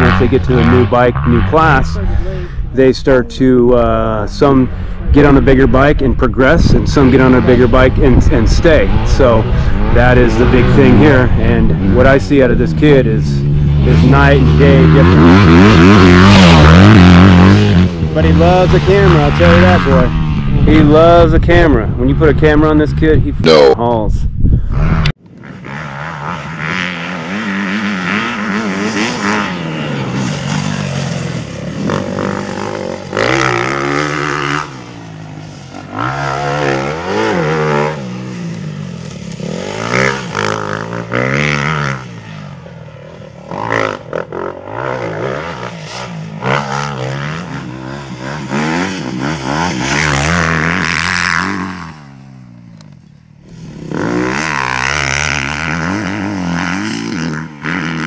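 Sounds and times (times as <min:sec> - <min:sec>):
dirt bike engine revving: 0:00.0 - 0:23.8, 0:24.7 - 0:58.0.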